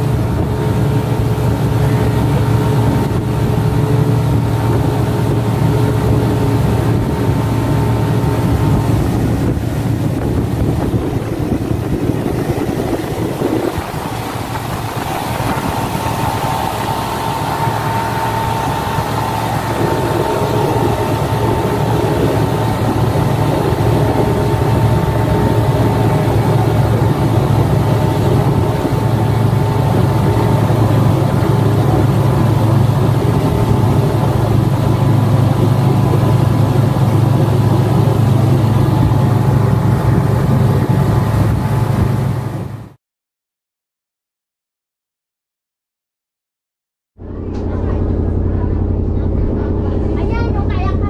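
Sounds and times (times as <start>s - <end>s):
boat wake rushing: 0.0s - 43.0s, 47.2s - 51.0s
motorboat engine running: 0.0s - 43.0s, 47.2s - 51.0s.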